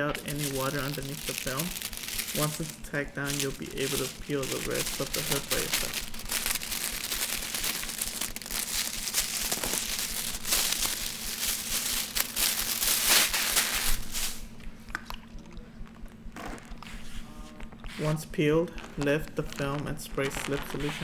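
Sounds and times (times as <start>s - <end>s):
plastic liner peeling crackle: 0.0s - 15.2s, 18.7s - 21.0s.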